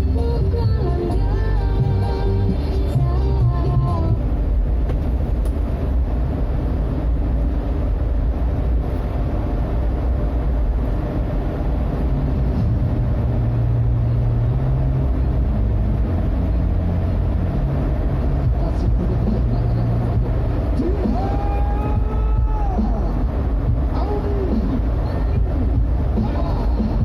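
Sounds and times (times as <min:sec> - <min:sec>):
car engine driving: 0:00.0 - 0:27.0
road noise: 0:00.0 - 0:27.0.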